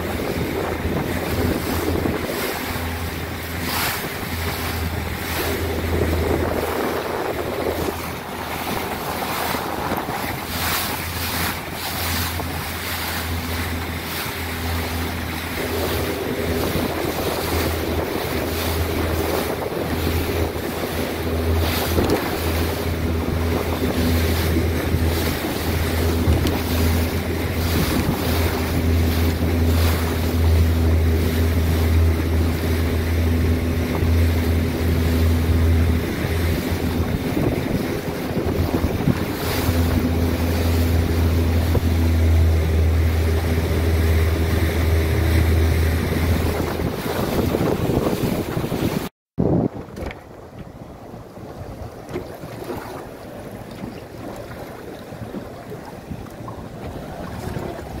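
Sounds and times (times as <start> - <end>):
boat engine humming: 0.0 - 58.0
rough sea washing: 0.0 - 58.0
wind buffeting microphone: 0.0 - 58.0.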